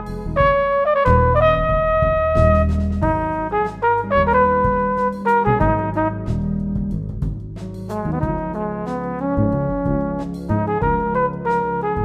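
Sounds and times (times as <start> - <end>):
brass held notes: 0.0 - 6.7, 7.9 - 12.0
bass line: 0.0 - 12.0.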